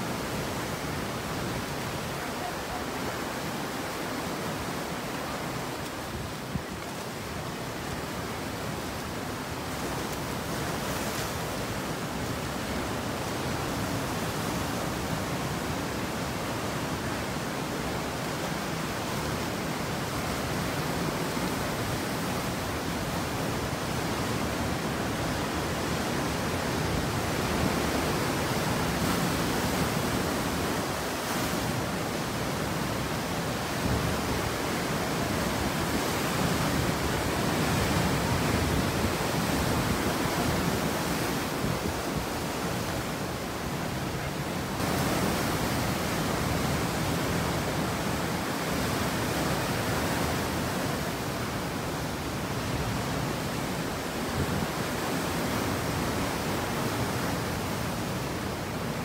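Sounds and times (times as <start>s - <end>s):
ocean surf breaking on rocks: 0.0s - 59.0s
wind: 0.0s - 59.0s.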